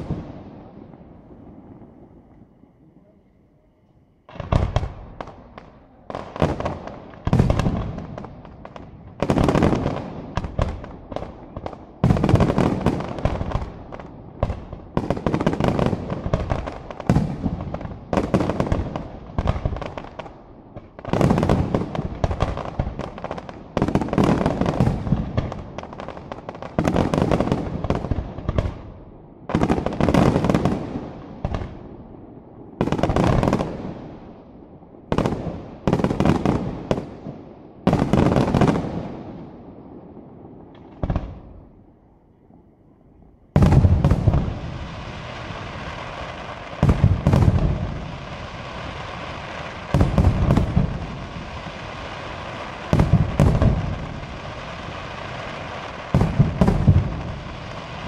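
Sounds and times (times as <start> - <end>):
fireworks launches and bursts: 0.0 - 2.7, 4.2 - 41.8, 43.5 - 58.0
fireworks crackle: 0.0 - 3.0, 4.2 - 31.8, 32.6 - 34.4, 43.6 - 58.0.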